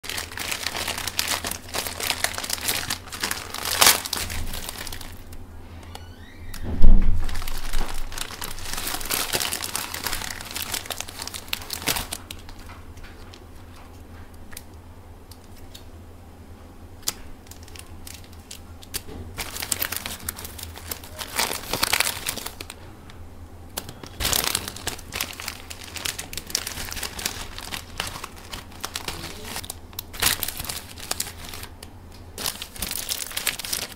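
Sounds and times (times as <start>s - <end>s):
plastic packet crinkling: 0.0s - 5.4s, 7.1s - 15.8s, 17.0s - 22.8s, 23.7s - 33.9s
sauce sachets rustling: 0.0s - 5.4s, 7.3s - 13.7s, 17.4s - 22.8s, 23.8s - 33.9s.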